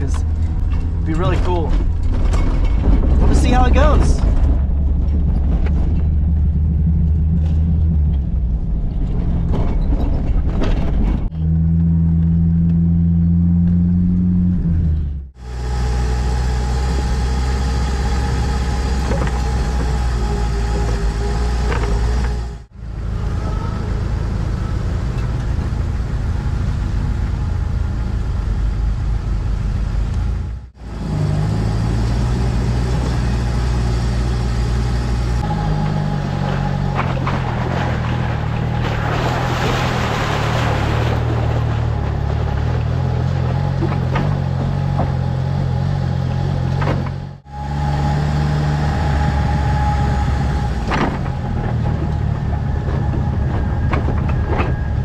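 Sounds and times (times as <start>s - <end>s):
car engine drone: 0.0s - 55.0s
tyre and road noise: 0.0s - 55.0s.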